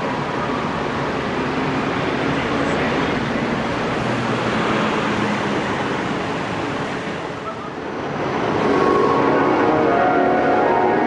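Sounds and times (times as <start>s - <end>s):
traffic: 0.0s - 11.0s.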